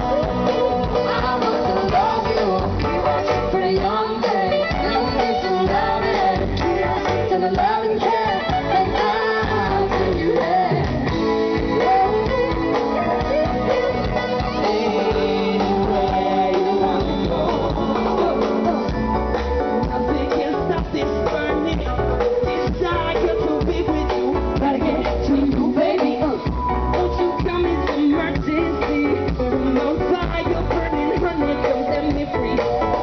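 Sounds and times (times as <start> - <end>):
music with singing: 0.0 - 33.0.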